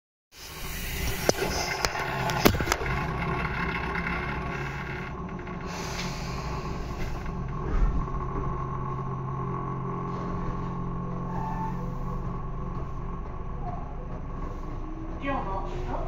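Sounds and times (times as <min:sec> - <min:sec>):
train electrical hum: 0:00.4 - 0:16.0.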